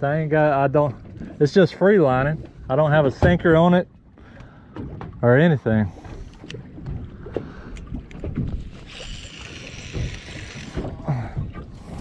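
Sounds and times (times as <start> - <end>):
waves slapping against boat hull: 0.0 - 12.0.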